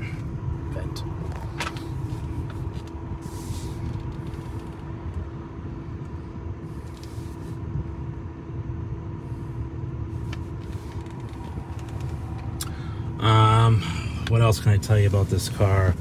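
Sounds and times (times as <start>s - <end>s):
faint steady hum: 0.0s - 16.0s
low car cabin rumble: 0.0s - 16.0s.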